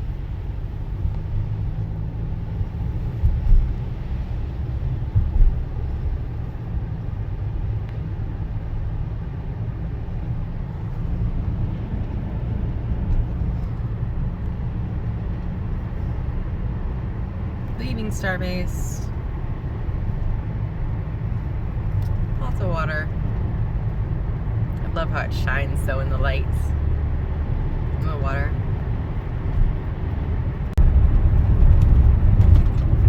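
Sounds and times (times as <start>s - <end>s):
car tyre and engine noise: 0.0s - 33.0s.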